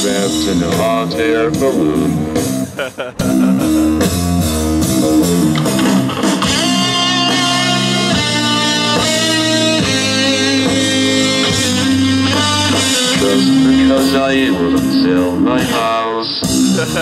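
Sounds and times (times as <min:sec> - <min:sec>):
guitar chords: 0:00.0 - 0:17.0
rock band instrumental: 0:00.0 - 0:17.0.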